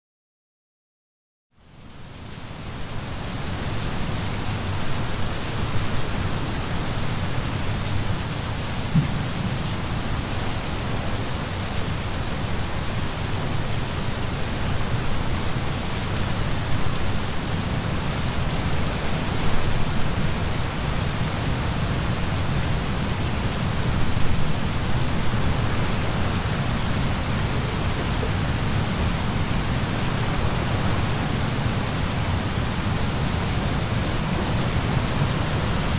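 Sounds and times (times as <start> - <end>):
steady rain hiss: 1.6 - 35.9.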